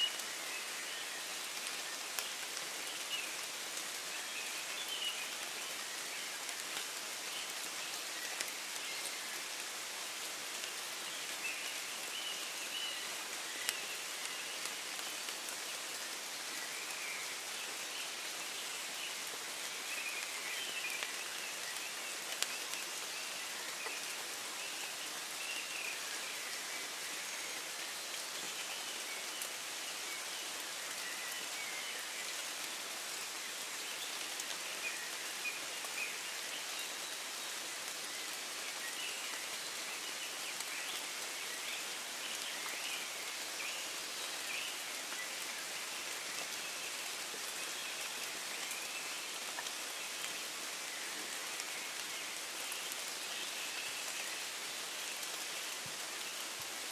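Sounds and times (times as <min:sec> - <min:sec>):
faint birds singing: 0:00.0 - 0:56.9
rain patter: 0:00.0 - 0:56.9.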